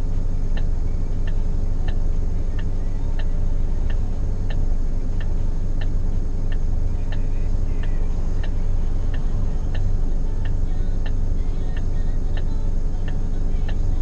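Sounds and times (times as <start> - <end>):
engine idling hum: 0.0 - 14.0
indicator relay ticking: 0.1 - 14.0.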